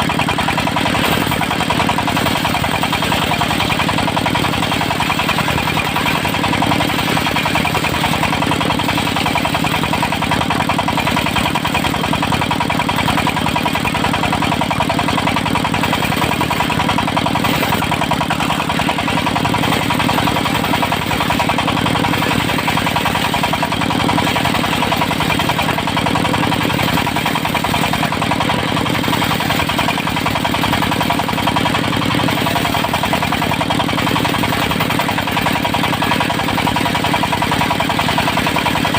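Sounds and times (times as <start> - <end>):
sawmill engine droning: 0.0 - 38.9.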